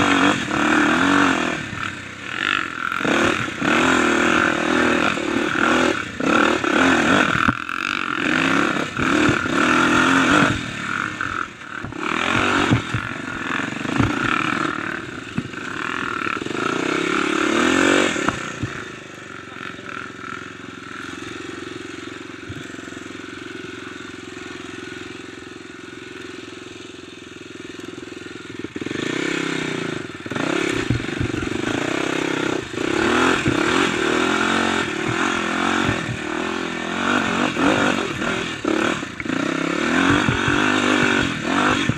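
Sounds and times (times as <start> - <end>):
bike rattling: 0.0 - 41.9
dirt bike engine revving: 0.0 - 41.9.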